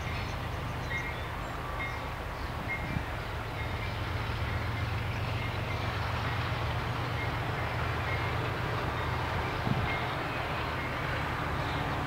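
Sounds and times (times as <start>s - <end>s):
diesel locomotive engines rumbling: 0.0s - 12.0s
train wheels on rails: 0.0s - 12.0s.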